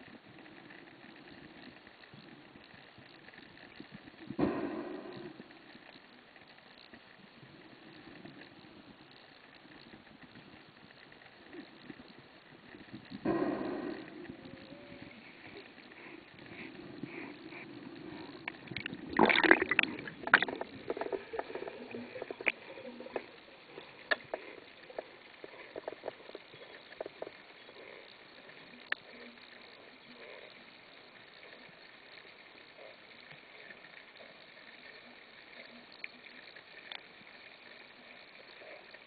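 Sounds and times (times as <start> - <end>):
low underwater hiss: 0.0 - 39.0.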